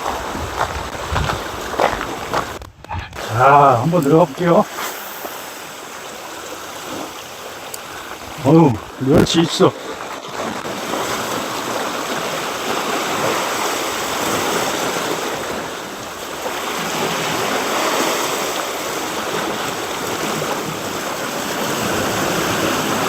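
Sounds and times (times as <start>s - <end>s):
seawater washing along shore: 0.0s - 23.0s.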